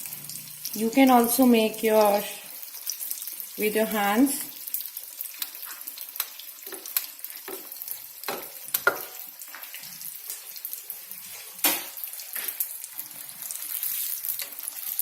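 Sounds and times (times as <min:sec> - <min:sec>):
food sizzling in hot oil: 0:00.0 - 0:15.0
oil crackling and popping: 0:00.0 - 0:15.0.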